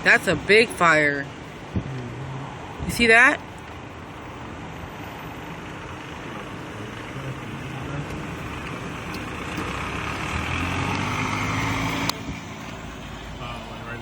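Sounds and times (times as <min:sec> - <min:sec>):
freeway traffic noise: 0:00.0 - 0:14.0
large vehicle engine drone: 0:00.0 - 0:14.0.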